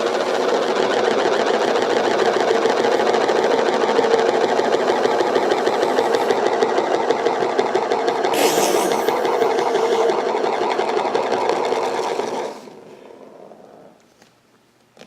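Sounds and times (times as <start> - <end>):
marbles spinning with rattling whir: 0.0 - 14.0.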